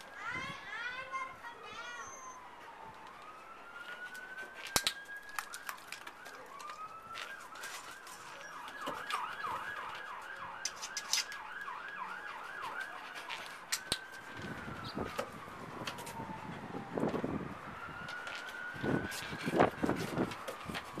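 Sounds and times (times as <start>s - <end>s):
emergency vehicle siren: 1.0s - 21.0s.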